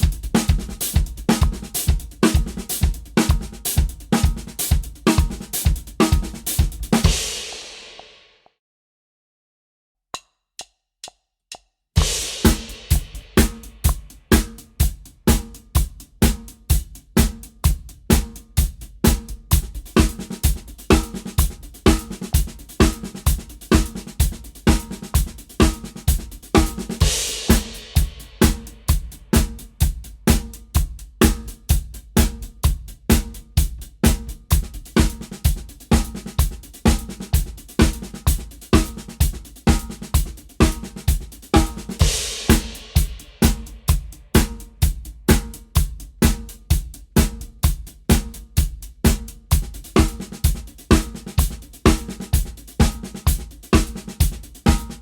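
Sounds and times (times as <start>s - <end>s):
drum kit playing grooves: 0.0s - 8.3s, 12.0s - 55.0s.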